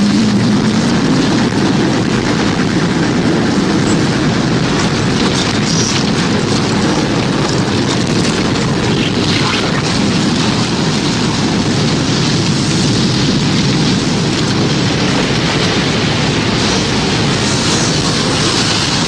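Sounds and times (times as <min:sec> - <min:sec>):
loud rush of wind and rain: 0:00.0 - 0:19.0.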